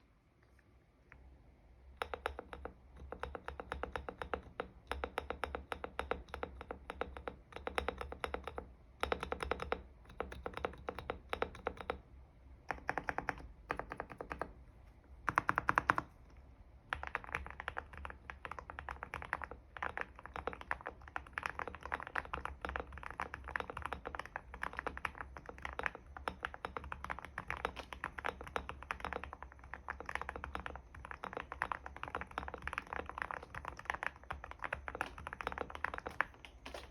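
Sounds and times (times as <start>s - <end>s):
mechanical keyboard typing: 2.0s - 12.0s, 12.7s - 14.6s, 15.2s - 16.2s, 16.9s - 36.9s.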